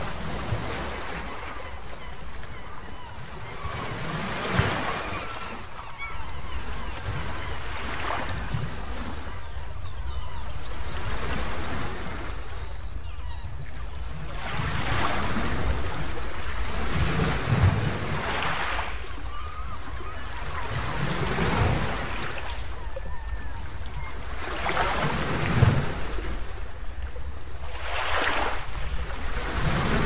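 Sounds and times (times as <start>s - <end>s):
waves breaking on beach: 0.0s - 2.6s, 3.3s - 9.8s, 14.1s - 30.0s.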